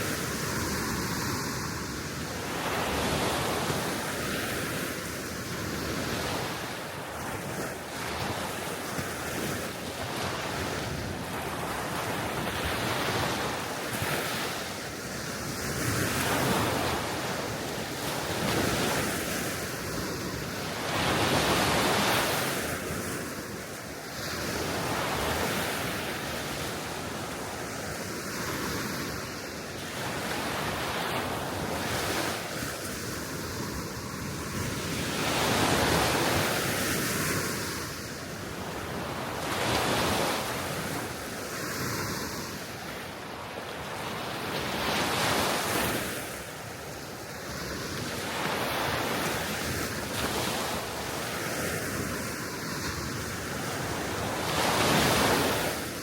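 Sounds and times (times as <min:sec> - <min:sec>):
small waves washing onto shore: 0:00.0 - 0:56.0.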